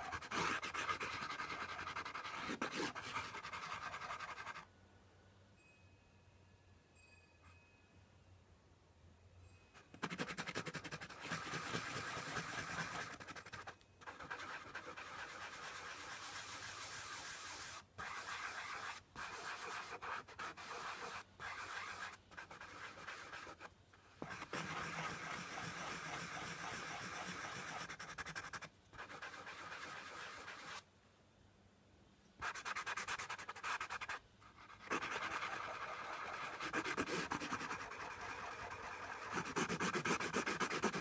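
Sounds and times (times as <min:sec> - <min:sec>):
pencil scratching on paper: 0:00.0 - 0:04.6, 0:09.9 - 0:30.8, 0:32.4 - 0:41.0.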